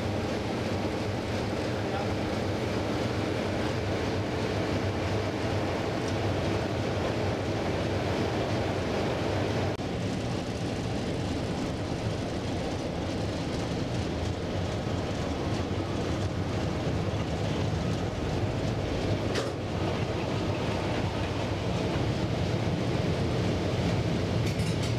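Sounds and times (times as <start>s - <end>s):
diesel locomotive engine drone: 0.0s - 24.9s
rail and cab noise: 0.0s - 24.9s.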